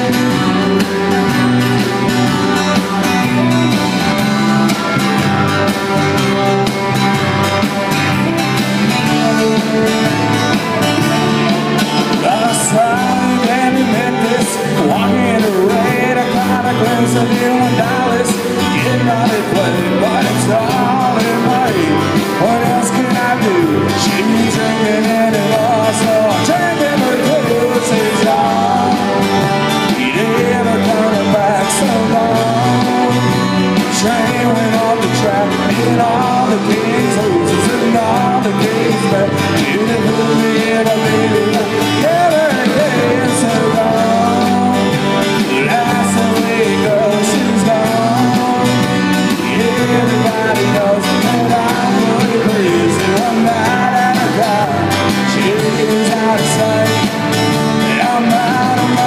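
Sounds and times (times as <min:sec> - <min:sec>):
acoustic guitar strumming: 0:00.0 - 0:59.0
drums: 0:00.0 - 0:59.0
electric guitar: 0:00.0 - 0:59.0
man singing: 0:00.0 - 0:59.0.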